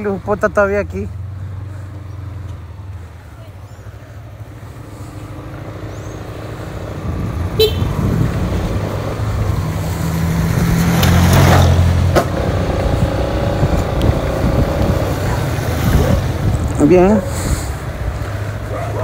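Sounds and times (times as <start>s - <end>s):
road noise: 0.0s - 19.0s
vehicle engine accelerating: 1.1s - 19.0s.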